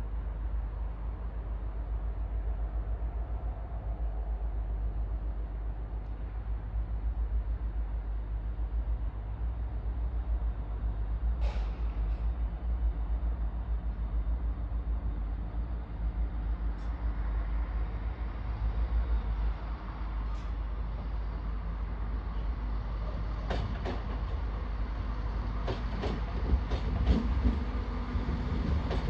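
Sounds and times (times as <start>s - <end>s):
diesel train rumble: 0.0s - 29.0s.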